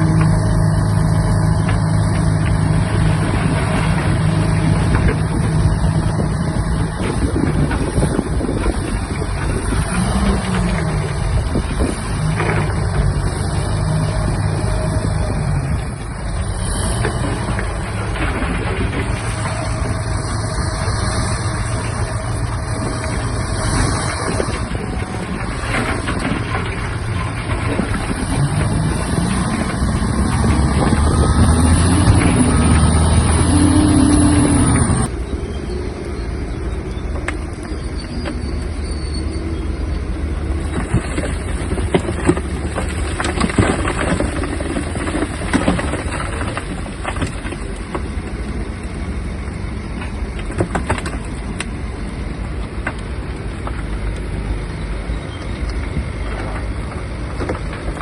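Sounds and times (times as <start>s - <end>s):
bulldozer diesel engine revving: 0.0s - 58.0s.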